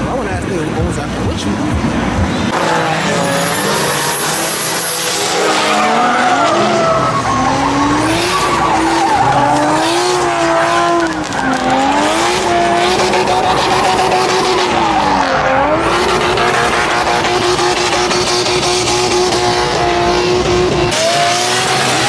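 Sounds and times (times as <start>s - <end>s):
car engine revving hard: 0.0s - 22.0s
tires squealing: 0.0s - 22.0s.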